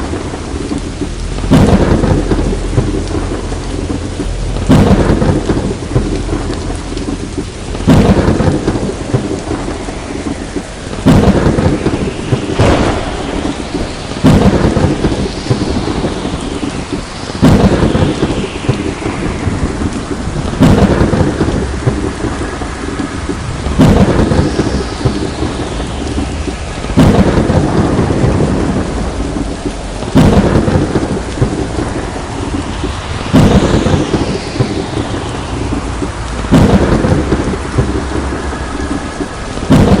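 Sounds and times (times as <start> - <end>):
heavy rain: 0.0 - 40.0
thunder cracking and rumbling: 0.0 - 40.0.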